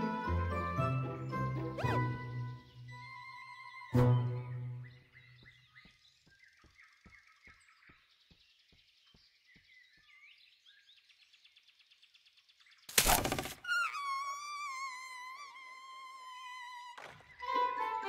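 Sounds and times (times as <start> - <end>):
faint bird chirps: 1.8 - 17.6.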